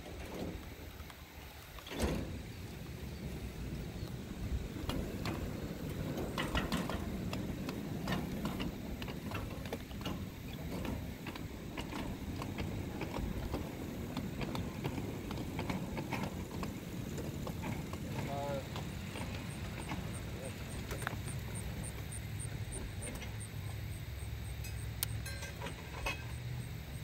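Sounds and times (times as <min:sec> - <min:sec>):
model train wheels rumbling: 0:00.0 - 0:27.0
wheels clicking over rail joints: 0:00.0 - 0:27.0.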